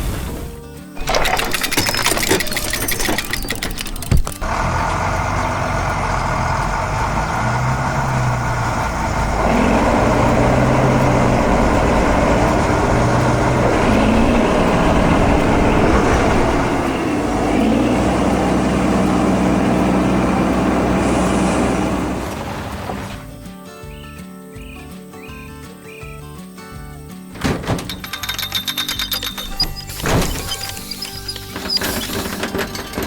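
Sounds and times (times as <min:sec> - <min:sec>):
heavy vehicle engine running: 0:00.0 - 0:23.3, 0:27.4 - 0:33.0.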